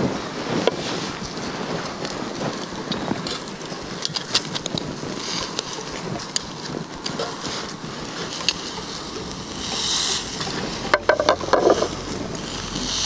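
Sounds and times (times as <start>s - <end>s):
meat sizzling on a grill: 0.0s - 13.0s
utensils clicking on metal grate: 0.6s - 13.0s.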